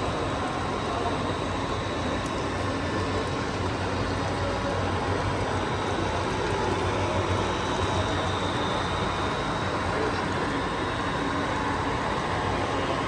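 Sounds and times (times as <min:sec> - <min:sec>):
model train running: 0:00.0 - 0:13.0.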